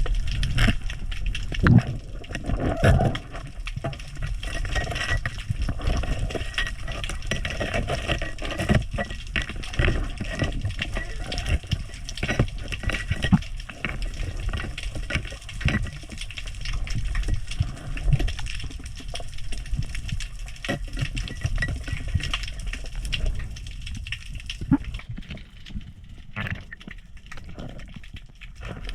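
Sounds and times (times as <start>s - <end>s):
underwater crackle of clicks: 0.0s - 28.9s
underwater rumble of moving water: 0.0s - 28.9s.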